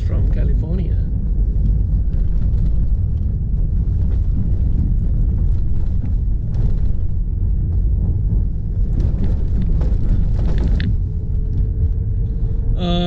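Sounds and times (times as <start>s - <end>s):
tyres rumbling on dirt road: 0.0s - 13.0s.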